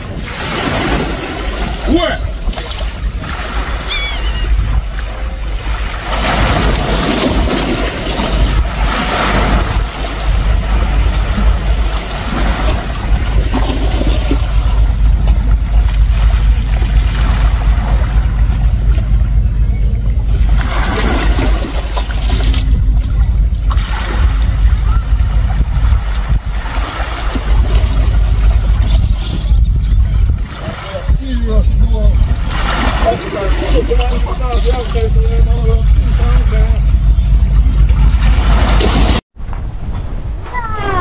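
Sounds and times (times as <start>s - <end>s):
surf washing ashore: 0.0s - 19.4s, 20.2s - 29.5s, 30.3s - 36.9s
gusty wind on microphone: 0.0s - 41.0s.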